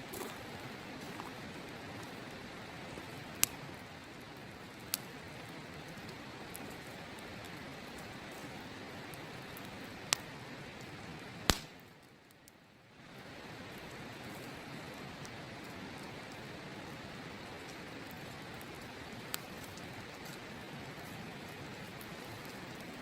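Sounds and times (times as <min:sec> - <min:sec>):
campfire crackling: 0:00.0 - 0:23.0
burning wood popping: 0:00.1 - 0:12.6, 0:13.2 - 0:23.0.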